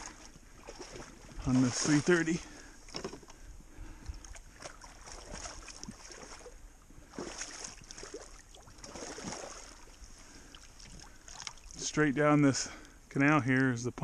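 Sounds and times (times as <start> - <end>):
small water splashes: 0.0 - 12.0
shallow water sloshing: 0.0 - 13.0.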